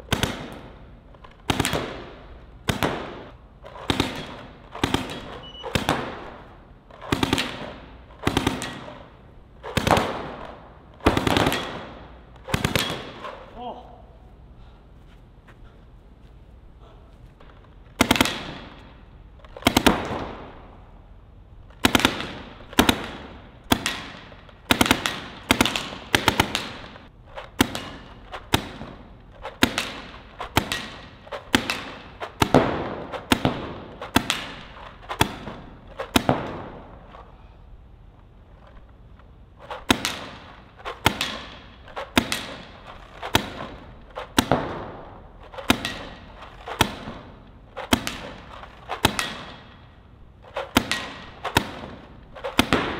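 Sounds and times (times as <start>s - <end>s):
paintball marker shots echoing: 0.0s - 13.8s, 17.4s - 21.0s, 21.6s - 37.4s, 39.6s - 52.9s.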